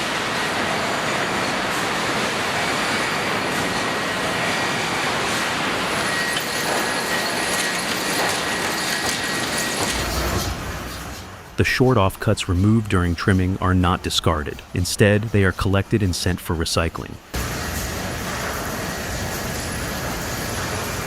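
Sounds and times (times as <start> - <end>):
conveyor and saws clattering: 0.0 - 21.0.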